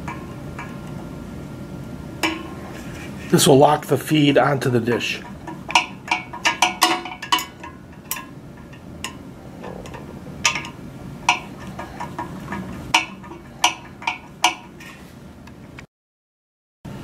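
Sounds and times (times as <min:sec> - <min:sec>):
low steady hum: 0:00.0 - 0:15.8.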